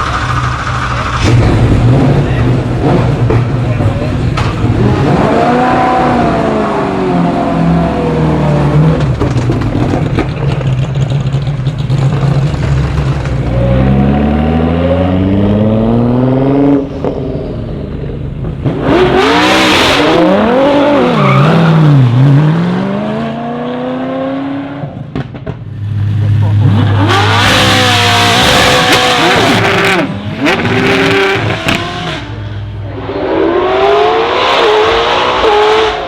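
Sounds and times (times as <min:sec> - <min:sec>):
race car engine revving: 0:00.0 - 0:17.4, 0:18.0 - 0:25.0, 0:26.1 - 0:36.0.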